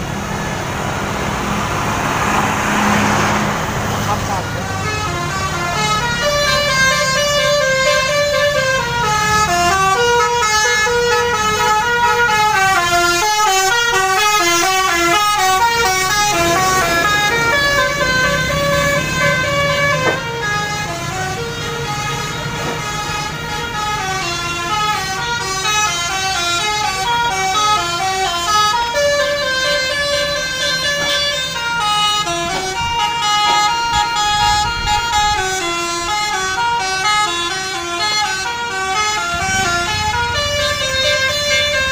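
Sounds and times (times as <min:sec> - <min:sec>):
bus engine running: 0:00.0 - 0:41.9
musical air horn melody: 0:04.6 - 0:41.9.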